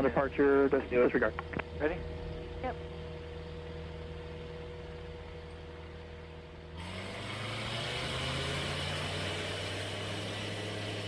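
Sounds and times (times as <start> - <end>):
light aircraft engine and propeller: 0.0 - 11.0.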